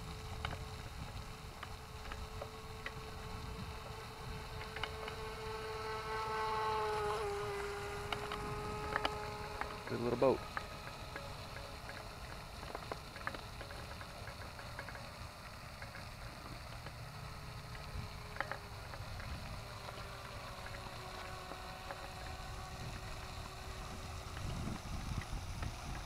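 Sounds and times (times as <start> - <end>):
background noise wash: 0.0 - 26.0
distant small electric motor whine: 0.0 - 26.0.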